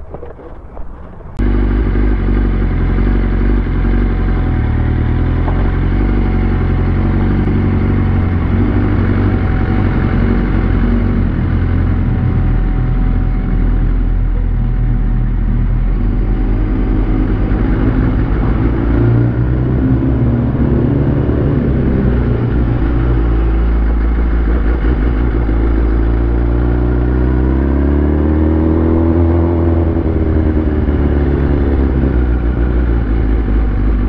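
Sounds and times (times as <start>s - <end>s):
motorcycle engine revving: 1.4s - 34.0s.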